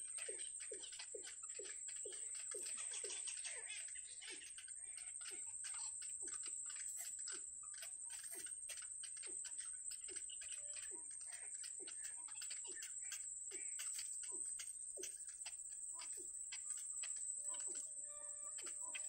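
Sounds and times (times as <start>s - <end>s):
bird chicks begging calls: 0.0s - 19.0s.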